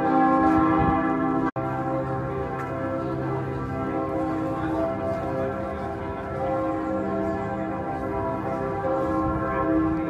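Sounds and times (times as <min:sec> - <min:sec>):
church bells ringing: 0:00.0 - 0:10.0.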